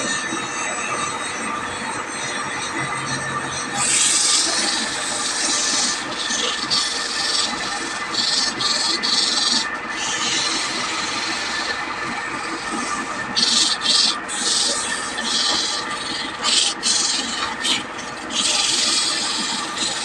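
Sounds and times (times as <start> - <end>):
tool scraping on wood: 3.8 - 20.0.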